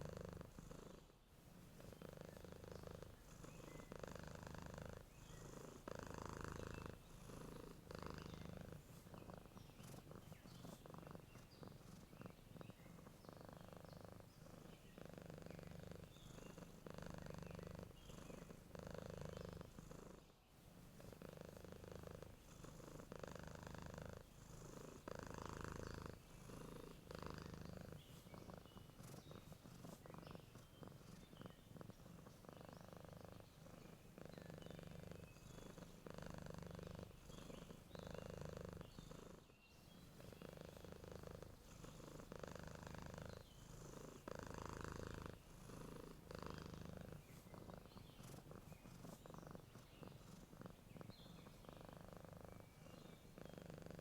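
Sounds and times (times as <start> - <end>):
cat purring: 0.0 - 54.0
faint bird chirps: 1.7 - 54.0.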